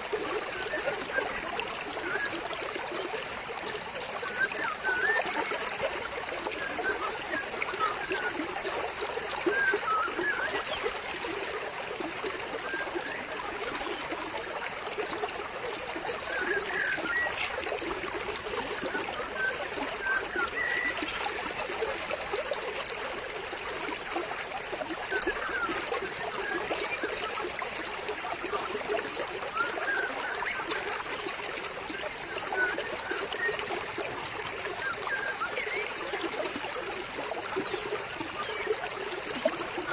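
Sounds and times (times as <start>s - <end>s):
stream water splashing over rocks: 0.0s - 39.9s.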